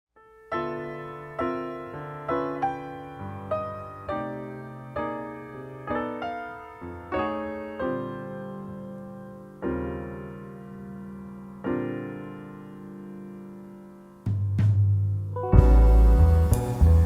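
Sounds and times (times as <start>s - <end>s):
piano playing slow chords: 0.2s - 14.3s, 15.3s - 17.0s.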